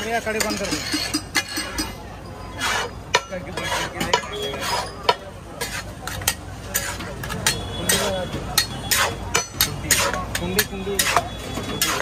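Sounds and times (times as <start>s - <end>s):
metal spatulas clinking on griddle: 0.0s - 12.0s.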